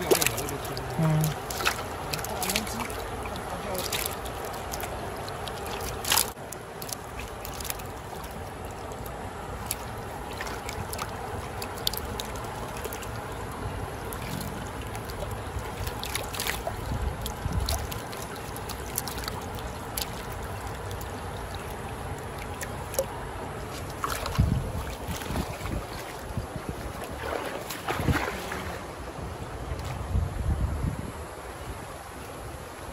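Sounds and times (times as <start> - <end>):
fish flapping and splashing: 0.0 - 28.8
creek water rushing over rapid: 0.0 - 32.9.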